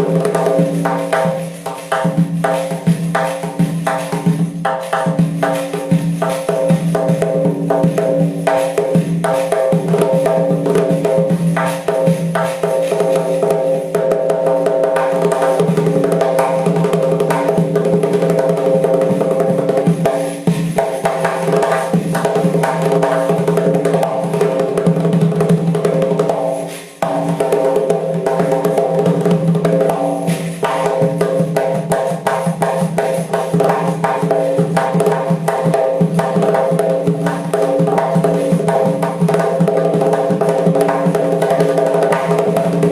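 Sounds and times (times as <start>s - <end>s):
frame drum with jingles: 0.0s - 42.9s.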